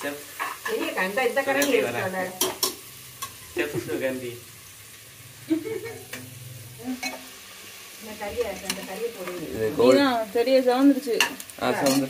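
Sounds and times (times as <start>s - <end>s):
chicken and onions sizzling: 0.0s - 12.0s.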